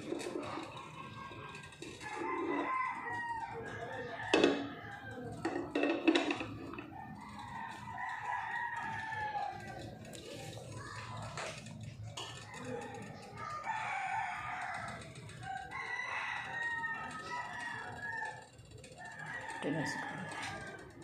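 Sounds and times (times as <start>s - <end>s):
rooster crowing: 0.0s - 11.4s, 12.2s - 21.0s.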